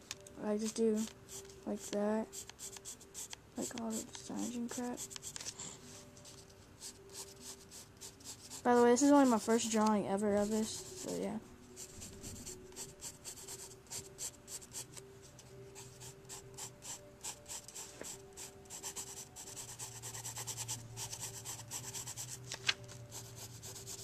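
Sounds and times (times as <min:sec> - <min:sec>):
pencil scratching on paper: 0:00.6 - 0:05.6, 0:06.2 - 0:15.0, 0:15.7 - 0:22.4, 0:23.1 - 0:24.0.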